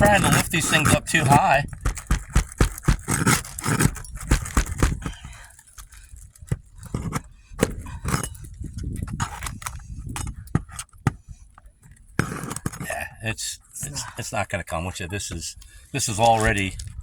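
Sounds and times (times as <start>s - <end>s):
metal tool scraping under shingles: 0.0s - 17.0s.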